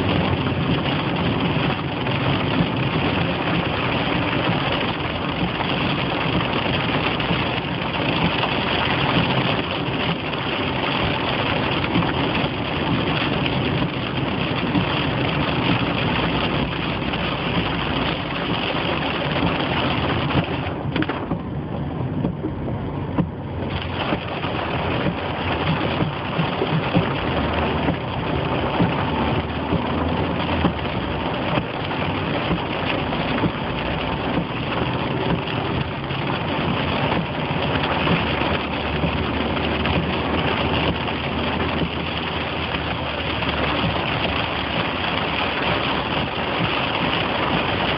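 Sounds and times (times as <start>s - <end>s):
car engine running: 0.0s - 47.9s
heavy rain on a car: 0.0s - 47.9s
tyres through standing water: 0.0s - 47.9s.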